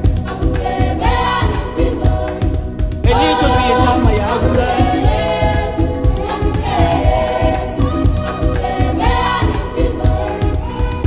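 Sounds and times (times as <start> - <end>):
choir singing over a beat: 0.0 - 11.0.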